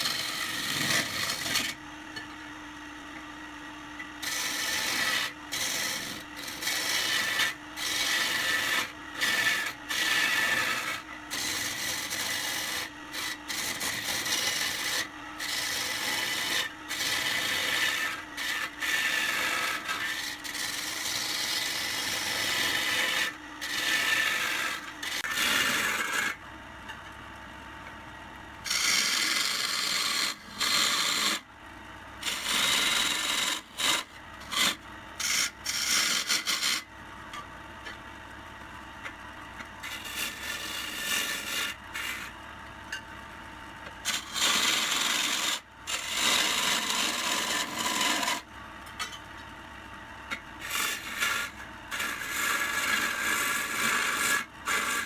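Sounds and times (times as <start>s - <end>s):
lathe running: 0.0s - 2.3s, 4.2s - 26.4s, 28.6s - 31.4s, 32.2s - 37.4s, 39.8s - 42.3s, 43.8s - 48.4s, 50.6s - 55.0s
tool scraping spinning wood: 0.0s - 2.4s, 4.1s - 26.4s, 28.6s - 31.5s, 32.2s - 38.0s, 39.6s - 42.5s, 43.7s - 49.2s, 50.2s - 55.0s.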